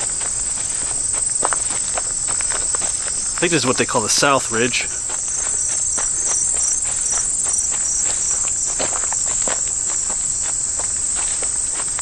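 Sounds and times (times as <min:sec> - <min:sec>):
footsteps on grassy dirt path: 0:00.0 - 0:12.0
insects trilling: 0:00.0 - 0:12.0.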